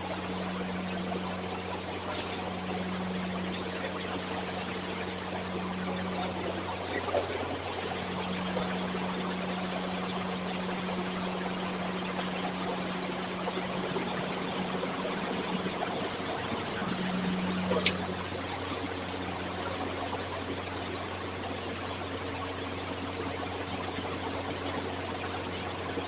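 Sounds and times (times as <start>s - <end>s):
low constant hum: 0.0s - 26.0s.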